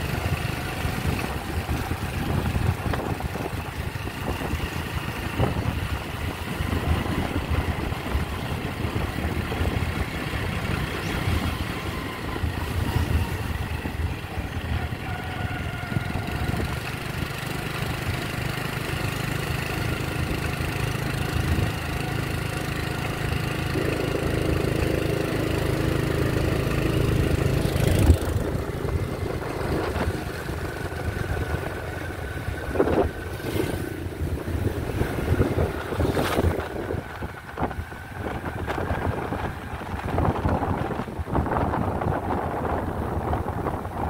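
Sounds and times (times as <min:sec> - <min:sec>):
wind buffeting microphone: 0:00.0 - 0:18.2, 0:20.0 - 0:44.0
small motorcycle engine running: 0:00.0 - 0:44.0.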